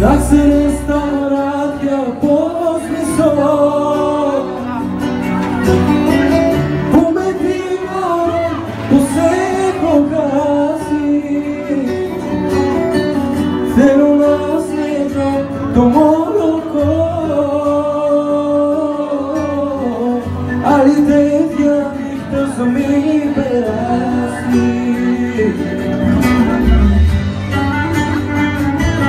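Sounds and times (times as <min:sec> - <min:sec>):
man singing into microphone: 0:00.0 - 0:27.4
instrumental backing music: 0:00.0 - 0:29.0.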